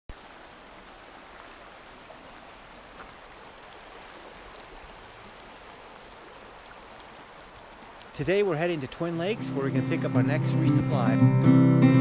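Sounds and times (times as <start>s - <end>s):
creek flowing over stones: 0.1s - 11.2s.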